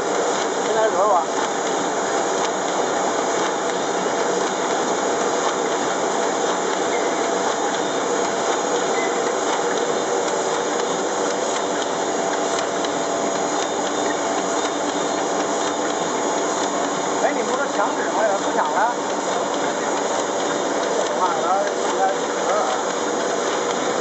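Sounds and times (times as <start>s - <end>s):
laminating machine hiss and hum: 0.0s - 24.0s.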